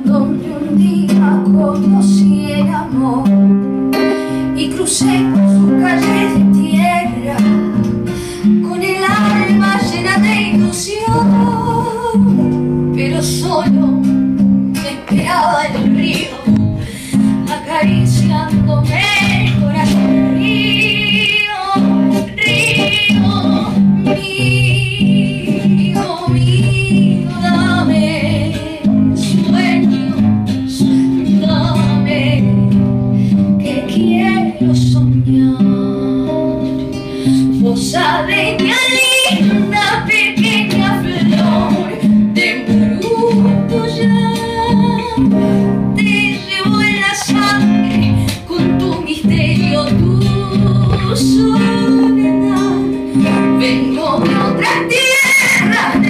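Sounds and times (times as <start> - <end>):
acoustic guitar playing chords: 0.0 - 56.0
woman singing with vibrato: 0.0 - 56.0.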